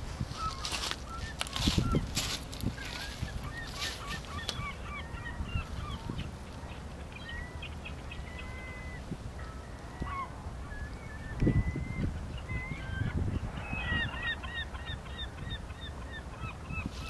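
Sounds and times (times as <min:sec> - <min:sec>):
gulls calling: 0:00.2 - 0:17.0.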